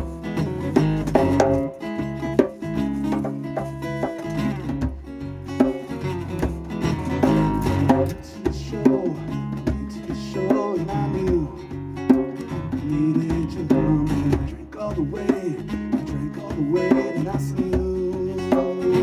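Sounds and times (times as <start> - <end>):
percussion hits: 0.0 - 19.0
plucked bass guitar: 0.0 - 19.0
strummed acoustic guitar: 0.0 - 19.0.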